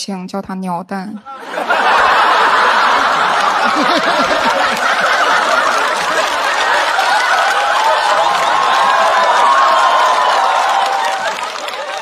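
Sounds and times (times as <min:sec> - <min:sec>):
studio audience laughing: 0:01.2 - 0:12.0.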